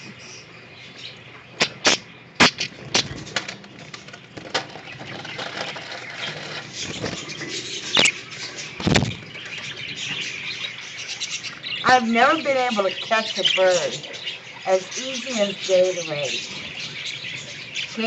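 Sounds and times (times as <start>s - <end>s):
budgerigars chirping: 0.0s - 3.4s, 4.8s - 18.0s.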